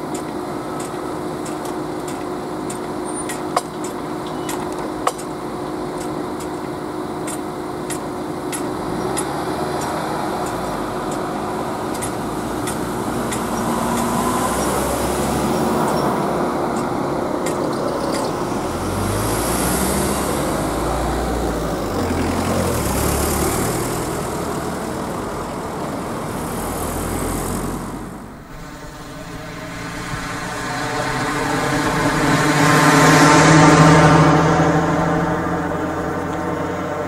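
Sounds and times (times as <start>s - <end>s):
cars passing over crossing: 0.0s - 37.0s.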